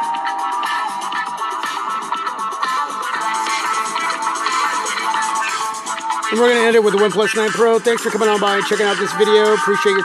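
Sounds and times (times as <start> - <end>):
electronic music from phone speakers: 0.0 - 10.0.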